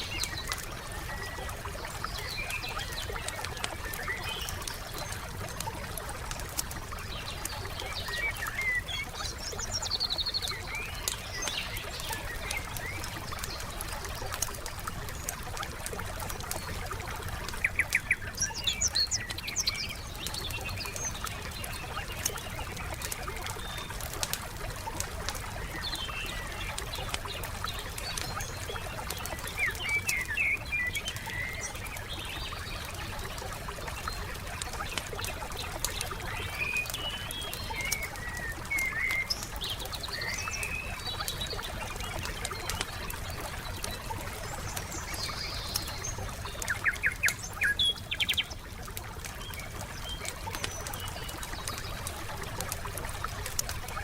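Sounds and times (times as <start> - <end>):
campfire crackling and popping: 0.0 - 54.0
songbirds chirping: 0.0 - 54.0.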